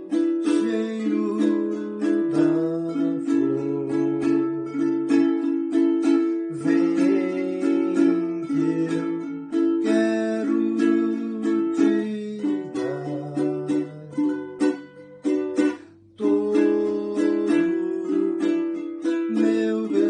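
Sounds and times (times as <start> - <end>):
ukulele strumming: 0.0 - 20.0.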